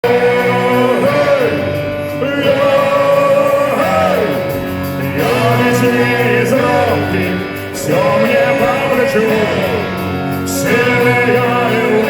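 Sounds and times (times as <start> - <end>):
instrumental accompaniment: 0.0 - 12.0
person singing: 0.0 - 12.0.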